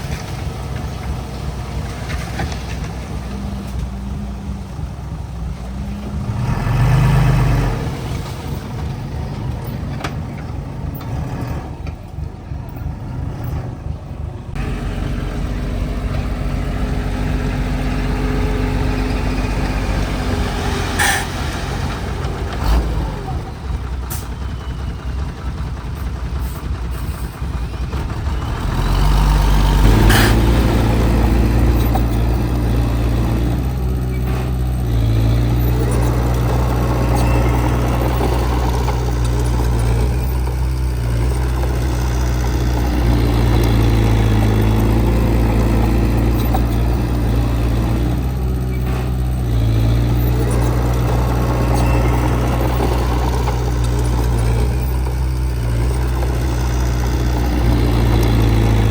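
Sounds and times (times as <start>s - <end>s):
heavy machinery diesel engine: 0.0s - 58.9s.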